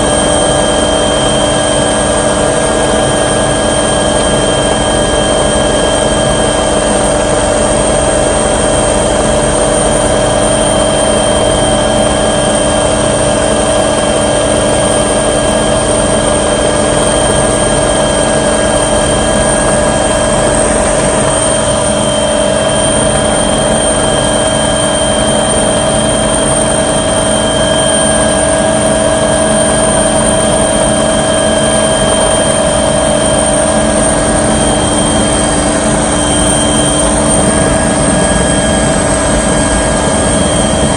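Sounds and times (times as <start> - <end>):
aircraft engine drone in cabin: 0.0 - 40.9.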